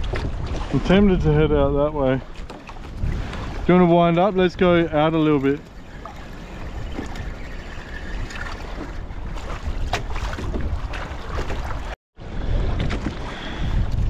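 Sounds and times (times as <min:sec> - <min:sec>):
water sloshing against kayak hull: 0:00.0 - 0:14.0
wind buffeting microphone: 0:00.0 - 0:14.0.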